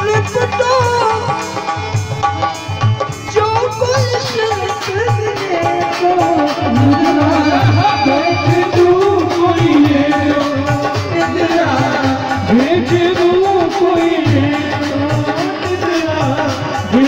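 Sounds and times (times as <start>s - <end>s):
harmonium melody: 0.0s - 17.0s
tabla beat: 0.0s - 17.0s.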